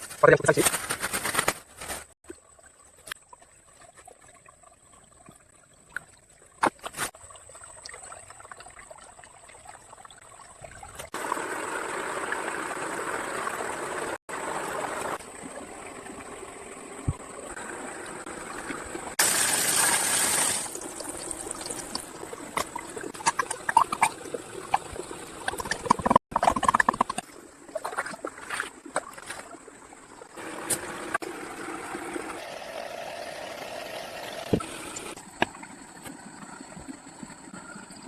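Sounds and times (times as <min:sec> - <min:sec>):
stream water trickling: 0:02.2 - 0:38.0.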